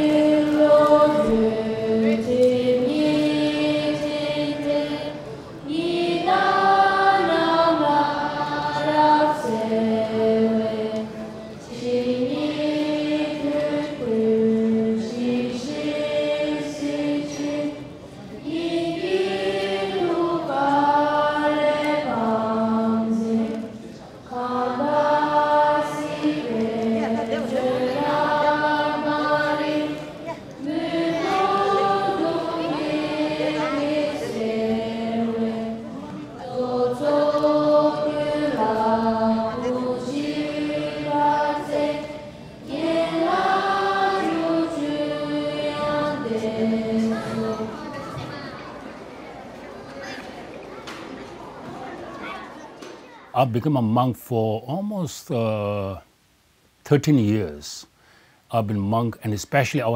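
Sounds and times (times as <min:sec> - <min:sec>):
young voices chanting a prayer: 0:00.0 - 0:53.6.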